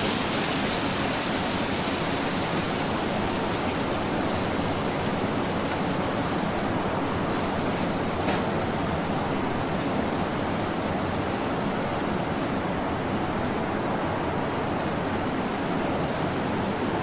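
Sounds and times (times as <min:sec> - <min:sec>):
ocean surf on a beach: 0:00.0 - 0:17.0.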